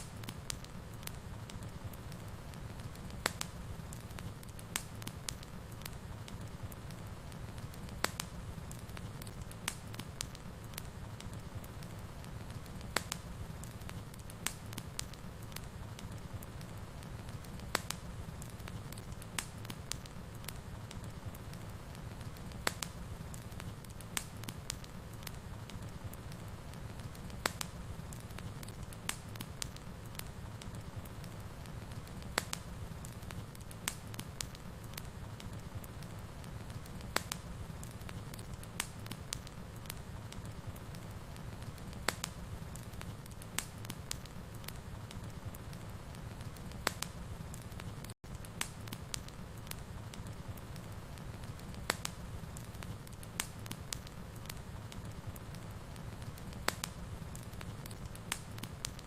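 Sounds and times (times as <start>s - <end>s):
flames rumbling: 0.0s - 59.0s
wood crackling and popping: 0.0s - 59.0s.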